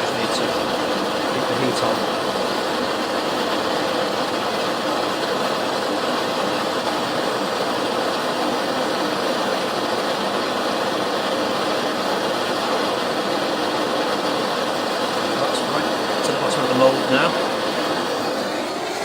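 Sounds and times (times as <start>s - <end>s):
blowtorch flame hissing: 0.0s - 19.0s.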